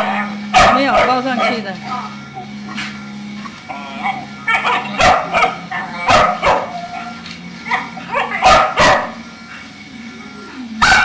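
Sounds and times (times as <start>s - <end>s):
puppies barking and yapping: 0.0s - 9.8s, 10.8s - 11.0s.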